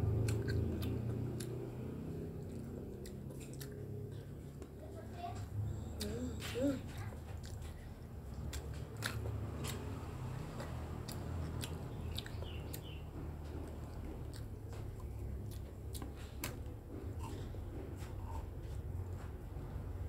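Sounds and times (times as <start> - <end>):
child chewing food: 0.0 - 20.0
low steady hum: 0.0 - 20.0.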